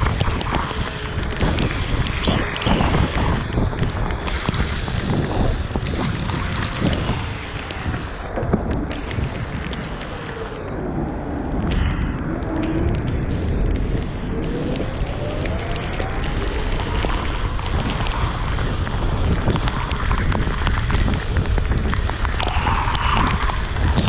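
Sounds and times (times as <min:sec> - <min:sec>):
raindrops ticking on camera: 0:00.0 - 0:24.0
wind buffeting microphone: 0:00.0 - 0:24.0.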